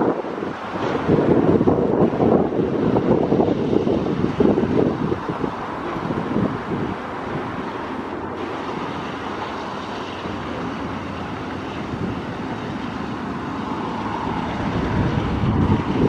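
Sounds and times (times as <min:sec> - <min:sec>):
diesel locomotives running: 0:00.0 - 0:16.0.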